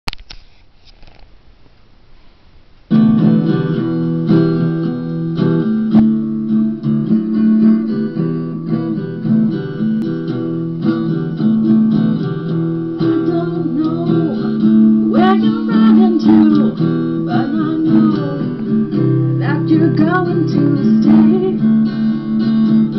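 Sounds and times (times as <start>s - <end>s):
guitar strumming blues chords: 2.9s - 22.9s.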